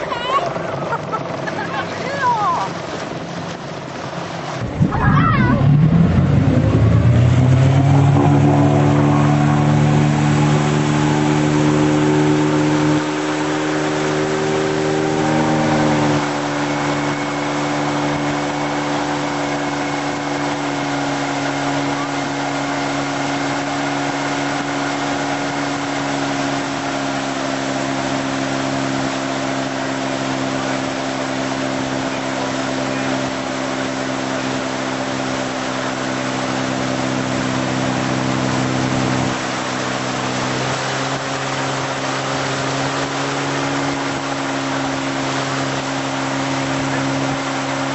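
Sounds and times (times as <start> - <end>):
boat engine running: 0.0 - 47.9.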